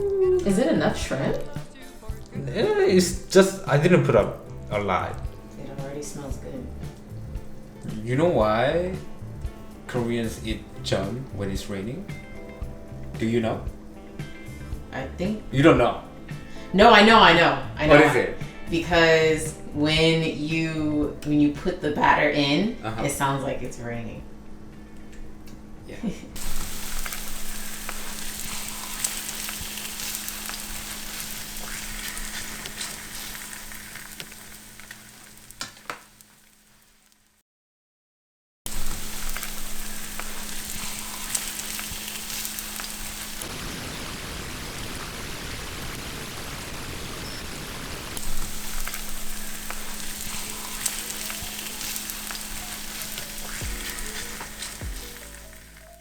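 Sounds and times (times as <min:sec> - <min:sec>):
batter sizzling in hot oil: 0:00.0 - 0:19.6, 0:26.4 - 0:37.4, 0:38.7 - 0:56.0.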